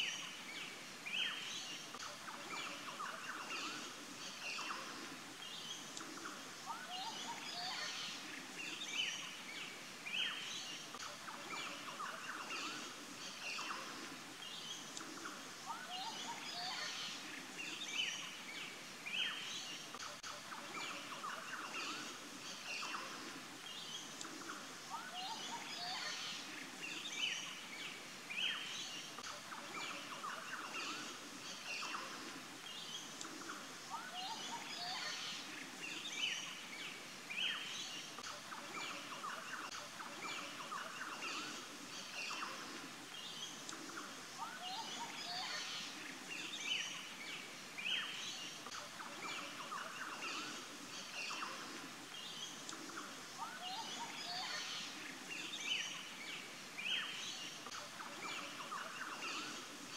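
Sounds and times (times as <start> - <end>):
birds chirping and trilling: 0.0 - 59.9
steady background hiss: 0.0 - 59.9.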